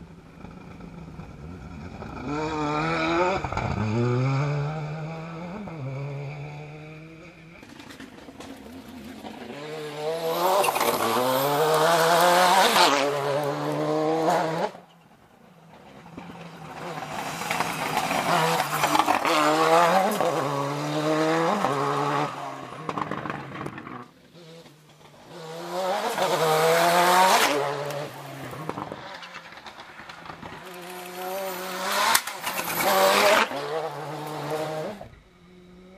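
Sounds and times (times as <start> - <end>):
rally car engine revving: 0.2 - 14.9, 15.8 - 35.9.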